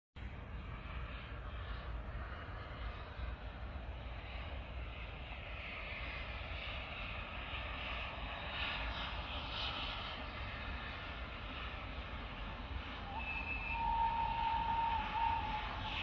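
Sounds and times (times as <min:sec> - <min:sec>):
distant steam locomotive rumble: 0:00.2 - 0:16.0.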